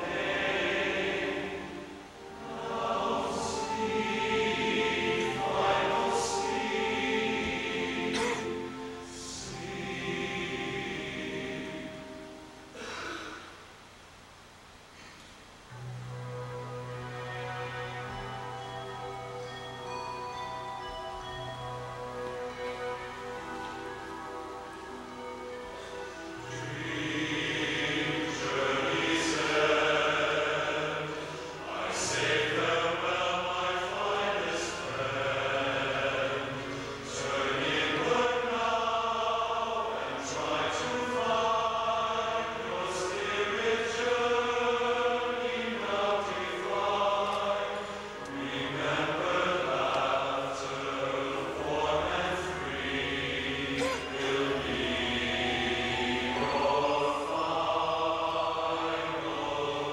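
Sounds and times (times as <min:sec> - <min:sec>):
men's chorus singing in harmony: 0:00.0 - 0:13.0, 0:16.3 - 0:59.9.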